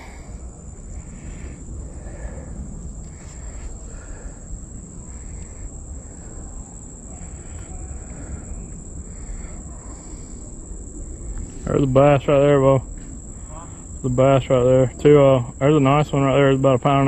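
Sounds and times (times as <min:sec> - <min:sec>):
high-pitched insect drone: 0:00.0 - 0:17.0
low background noise: 0:00.0 - 0:17.0.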